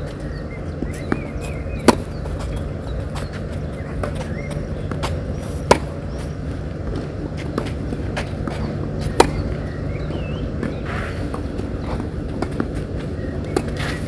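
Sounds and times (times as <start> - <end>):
birds chirping: 0.0 - 14.0
low outdoor hum: 0.0 - 14.0
tennis ball bouncing: 0.0 - 14.0
rackets hitting tennis ball: 0.8 - 6.3, 6.9 - 9.7, 10.6 - 14.0.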